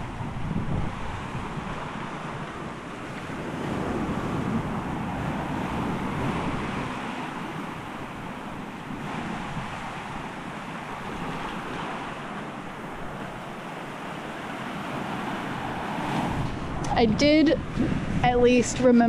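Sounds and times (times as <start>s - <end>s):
ocean waves breaking on shore: 0.0s - 19.0s.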